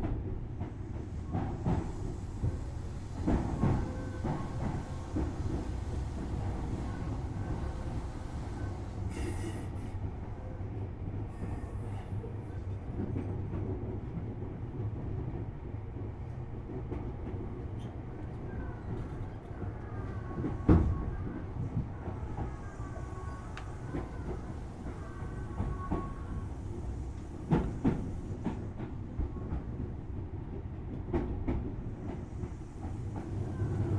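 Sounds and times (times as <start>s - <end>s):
train wheels rumbling on track: 0.0s - 33.9s.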